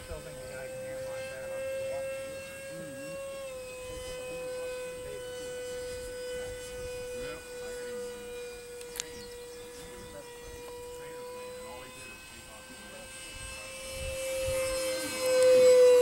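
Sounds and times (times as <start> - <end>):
model airplane motor droning: 0.0 - 16.0.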